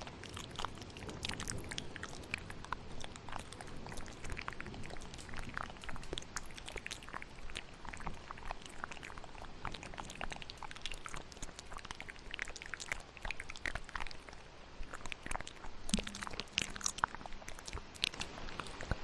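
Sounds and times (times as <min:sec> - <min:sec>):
wet mouth clicks and smacks: 0:00.0 - 0:19.0.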